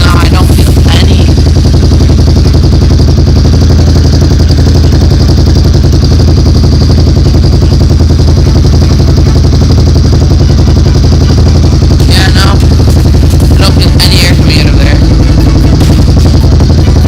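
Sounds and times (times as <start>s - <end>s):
atv engine idling: 0.0s - 17.0s.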